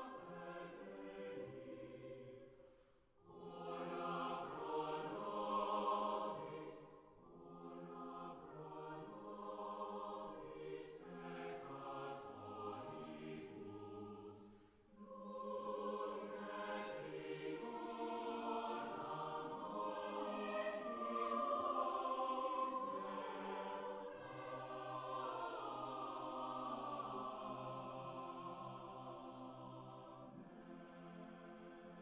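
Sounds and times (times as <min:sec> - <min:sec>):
solemn choir-like music: 0:00.0 - 0:32.0.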